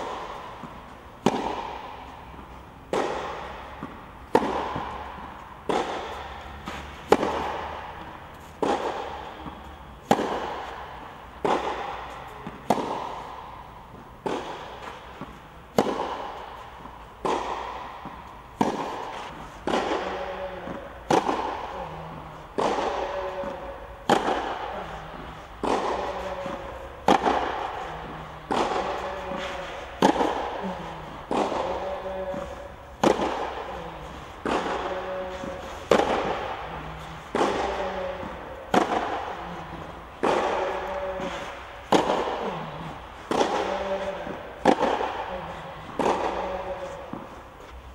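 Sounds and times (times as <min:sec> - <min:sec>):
tennis balls hit with rackets: 0:00.0 - 0:47.9.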